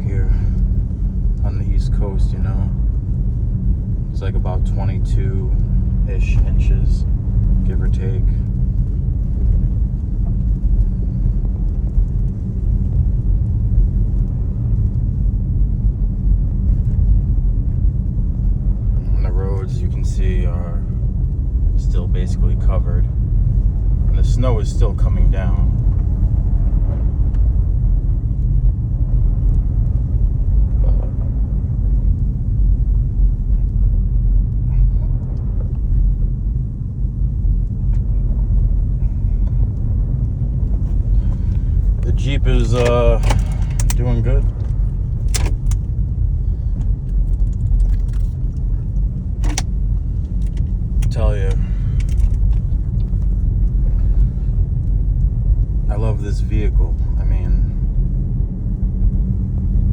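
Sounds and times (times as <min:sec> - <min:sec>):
car engine and tyres rumbling in snow: 0:00.0 - 0:59.9.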